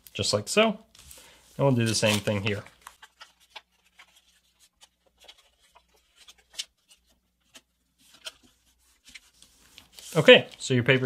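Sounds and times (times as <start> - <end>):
paper crinkle: 0.9 - 10.7
paper rustling and crackling: 0.9 - 10.7.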